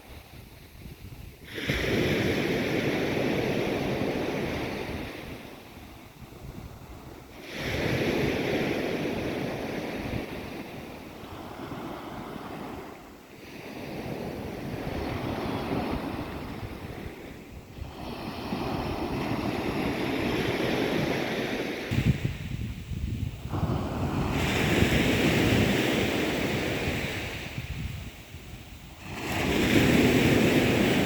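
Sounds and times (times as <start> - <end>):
wind buffeting microphone: 0.0 - 31.0
sea waves breaking: 1.5 - 31.0.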